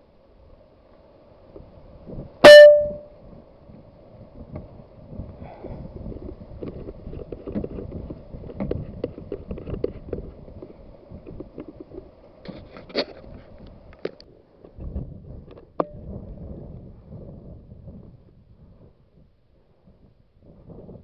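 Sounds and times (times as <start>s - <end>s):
wind buffeting microphone: 1.5s - 12.4s, 14.7s - 21.0s.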